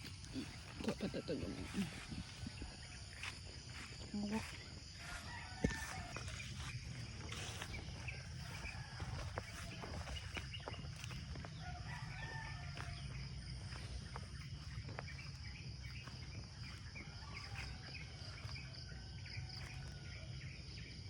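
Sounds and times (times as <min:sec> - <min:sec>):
distant rooster crowing: 0:01.0 - 0:20.8.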